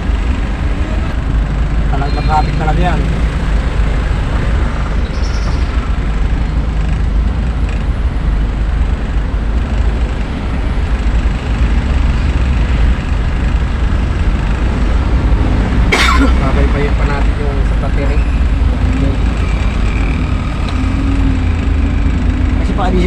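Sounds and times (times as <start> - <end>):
road noise: 0.0 - 23.0
vehicle engine rumble: 0.0 - 23.0.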